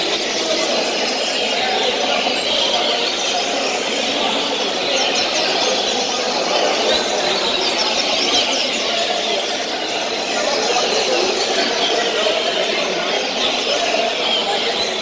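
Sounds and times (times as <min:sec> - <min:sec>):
chorus of birds chirping: 0:00.0 - 0:15.0
clear bird song phrases: 0:00.0 - 0:15.0.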